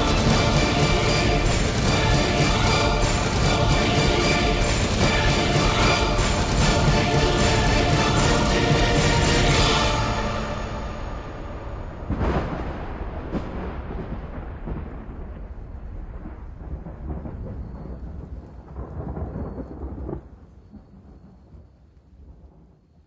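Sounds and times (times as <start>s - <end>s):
rain: 0.0s - 23.0s
thunder cracking and rumbling: 0.0s - 23.0s.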